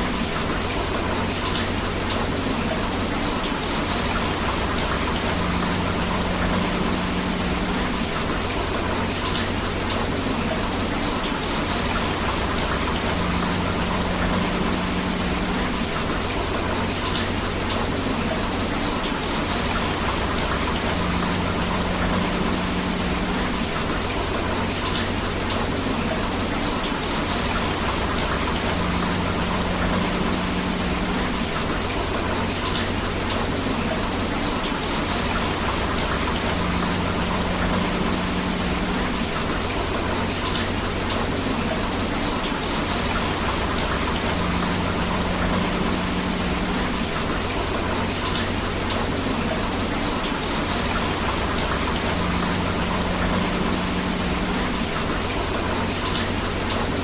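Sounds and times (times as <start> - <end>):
river water flowing: 0.0 - 57.0
steady rain: 0.0 - 57.0.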